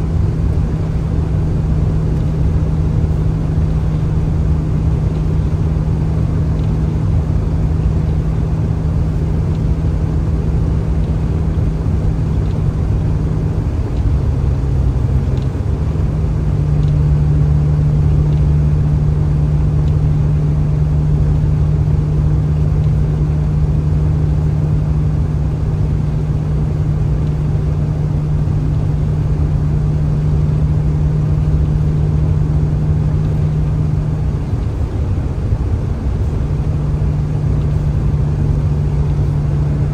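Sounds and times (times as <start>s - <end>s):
vehicle engine and road drone: 0.0s - 39.9s.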